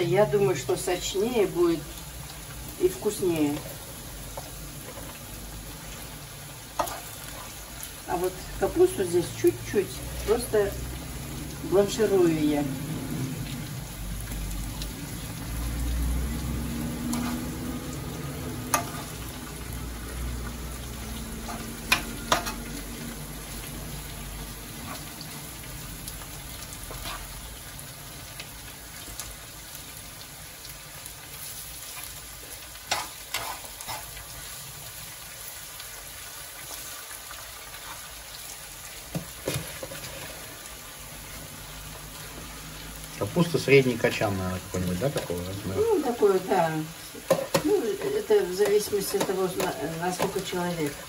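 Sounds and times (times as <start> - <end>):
food sizzling in a frying pan: 0.0 - 51.0.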